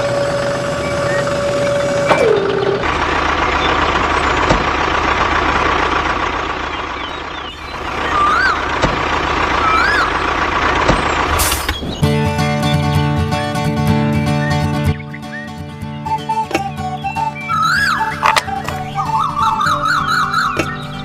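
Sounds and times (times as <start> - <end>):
vehicle engine running: 0.0 - 14.1, 17.4 - 21.0.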